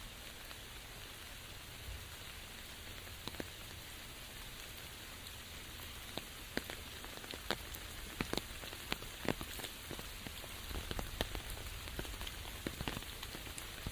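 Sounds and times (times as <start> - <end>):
rain hissing: 0.0 - 13.9.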